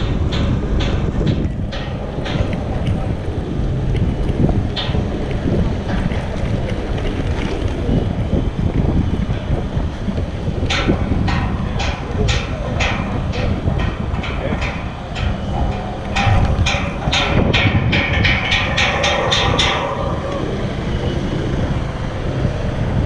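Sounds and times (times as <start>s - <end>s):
steady low rumble: 0.0s - 23.0s
wind buffeting microphone: 0.0s - 23.0s.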